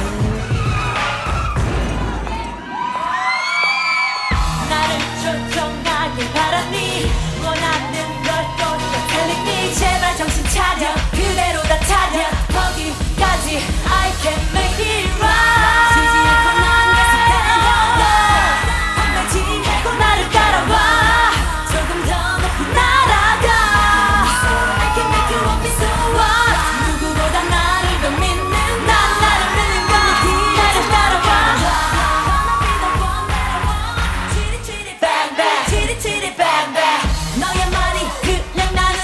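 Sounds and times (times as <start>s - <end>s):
dance-pop song with heavy beat: 0.0s - 1.8s, 4.2s - 39.0s
person singing: 4.4s - 39.0s.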